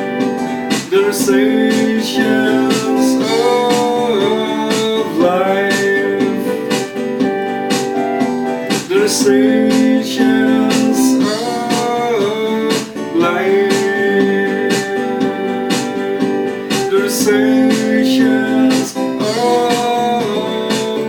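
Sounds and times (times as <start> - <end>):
song with guitar and keyboard: 0.0 - 21.0.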